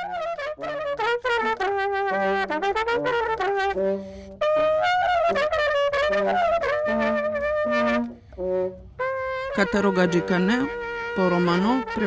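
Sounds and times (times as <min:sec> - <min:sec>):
trumpet playing quick notes: 0:00.0 - 0:12.0.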